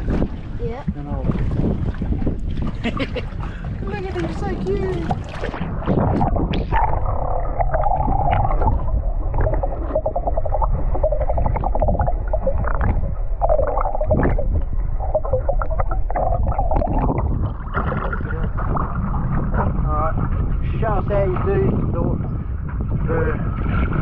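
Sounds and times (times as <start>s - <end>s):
low underwater rumble: 0.0s - 24.0s
muffled underwater gurgling: 3.4s - 24.0s.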